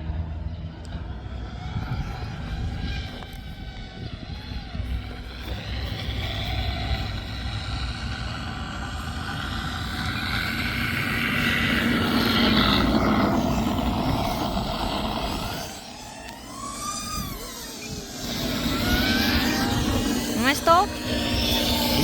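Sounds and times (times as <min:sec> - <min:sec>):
electric motor and propeller: 0:00.0 - 0:22.0
wind rumble on microphone: 0:00.0 - 0:22.0.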